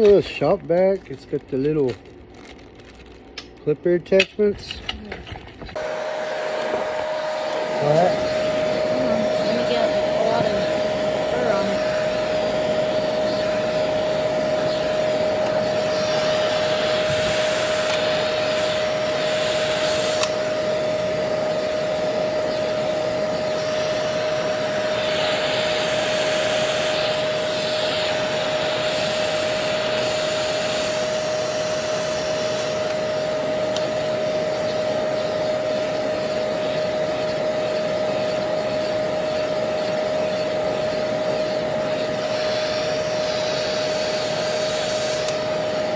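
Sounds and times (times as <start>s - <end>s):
grooming vacuum whining: 0.0s - 45.9s.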